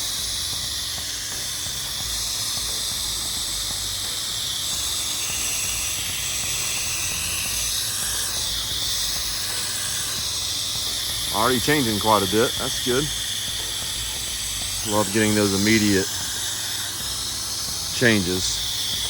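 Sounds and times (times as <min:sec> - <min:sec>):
pressure washer spraying: 0:00.0 - 0:19.0.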